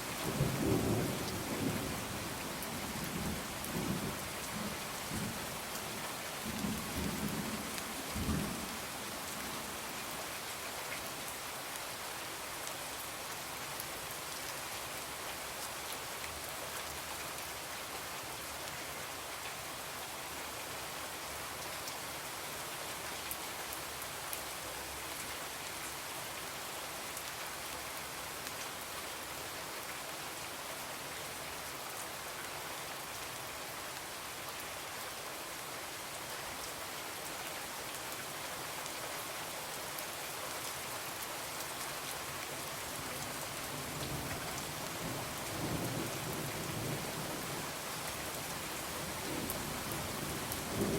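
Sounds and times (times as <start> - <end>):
rain on a window: 0.0 - 50.9.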